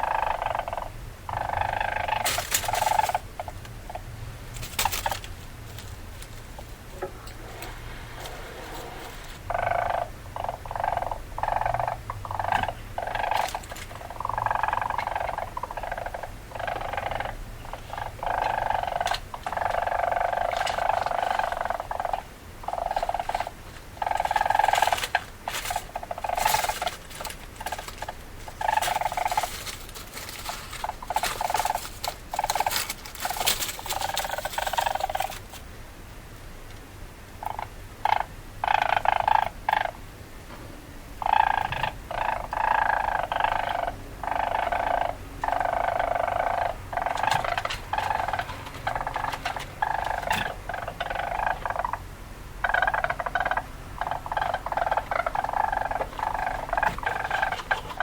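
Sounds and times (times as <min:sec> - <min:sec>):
weasel calls: 0:00.0 - 0:04.2, 0:08.3 - 0:35.4, 0:37.4 - 0:40.0, 0:41.2 - 0:58.0.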